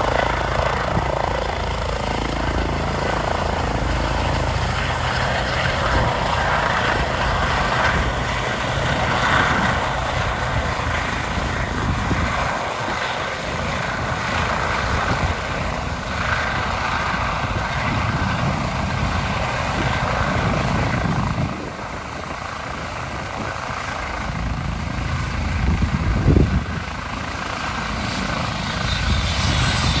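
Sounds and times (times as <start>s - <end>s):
helicopter rotor and engine: 0.0s - 30.0s.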